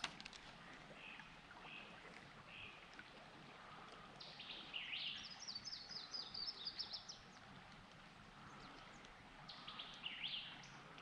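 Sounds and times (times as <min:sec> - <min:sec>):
songbird singing: 0:00.0 - 0:07.7, 0:08.4 - 0:11.0.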